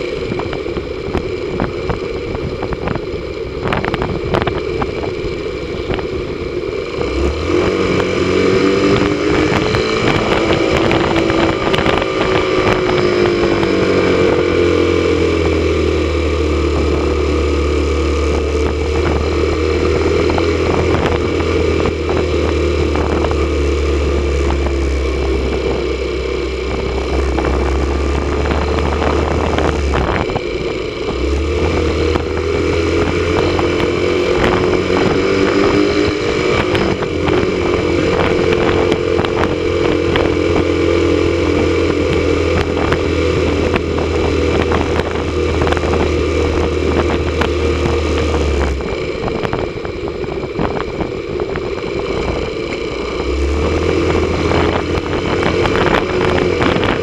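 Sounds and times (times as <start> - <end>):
motorcycle engine running: 0.0 - 57.0
rushing riding noise: 0.0 - 57.0.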